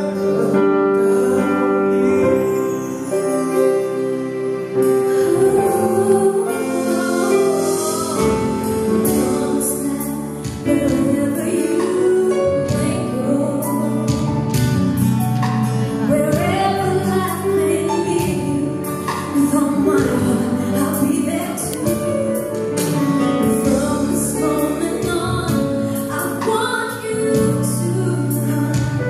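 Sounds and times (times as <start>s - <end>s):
instrumental accompaniment: 0.0s - 29.0s
woman singing a ballad: 4.7s - 29.0s.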